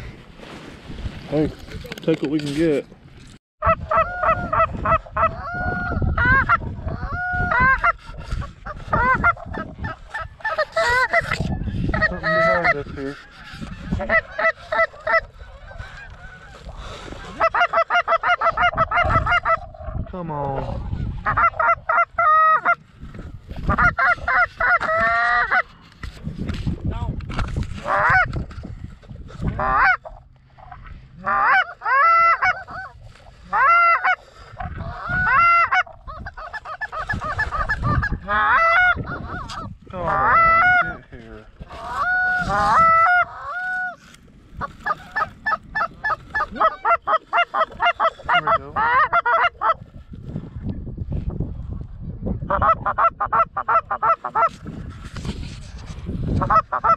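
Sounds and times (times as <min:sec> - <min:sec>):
goose call honks and clucks: 0:03.6 - 0:22.8, 0:23.5 - 0:26.1, 0:27.4 - 0:28.6, 0:29.3 - 0:49.9, 0:52.4 - 0:56.9.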